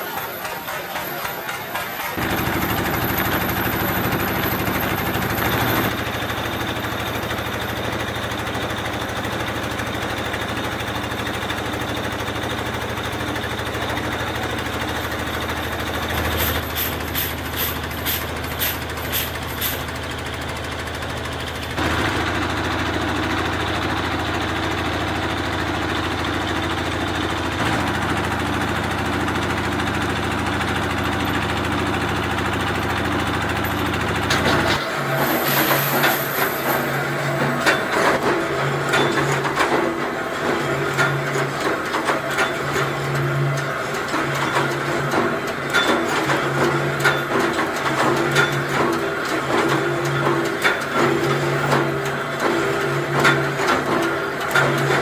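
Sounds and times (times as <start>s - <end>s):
factory machinery humming: 0.0s - 55.0s.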